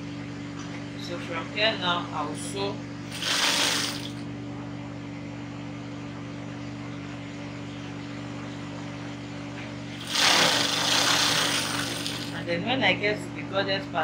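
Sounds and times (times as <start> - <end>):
low electric hum: 0.0 - 14.0.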